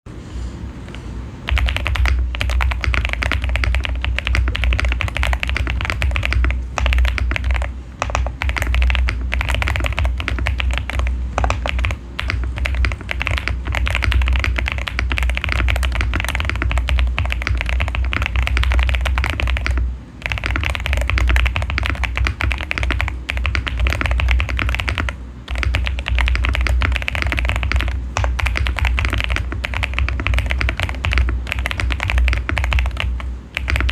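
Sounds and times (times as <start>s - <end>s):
fast mechanical keyboard typing: 1.4s - 33.9s.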